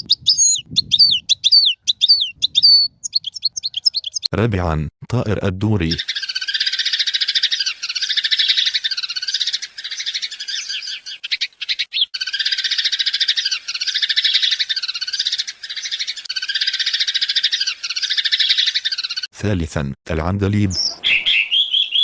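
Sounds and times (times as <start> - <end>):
sparrows chirping: 0.0 - 4.3, 5.9 - 19.3, 20.8 - 22.0.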